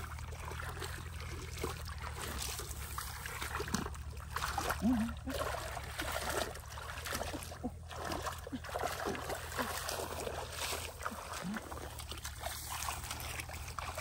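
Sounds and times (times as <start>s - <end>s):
muddy water splashing: 0.0s - 14.0s.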